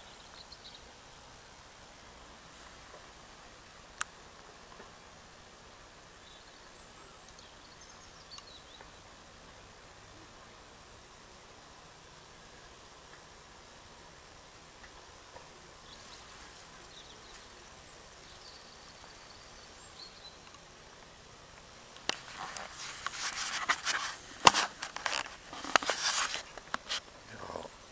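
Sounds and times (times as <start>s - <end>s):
faint outdoor hiss: 0.0s - 27.9s.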